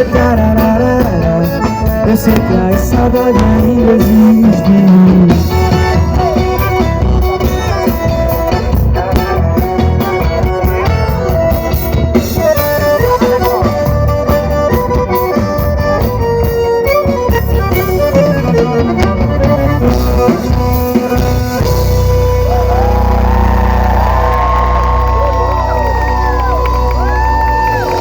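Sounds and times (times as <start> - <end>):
live band playing pop: 0.0 - 28.0.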